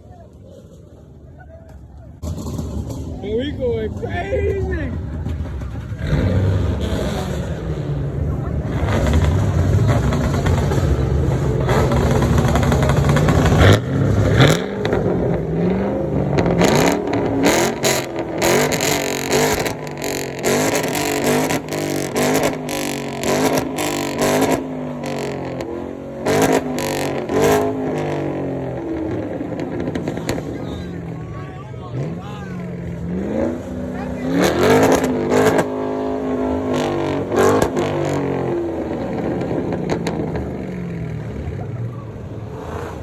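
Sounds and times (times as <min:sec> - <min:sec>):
car engine revving: 0:02.2 - 0:43.0.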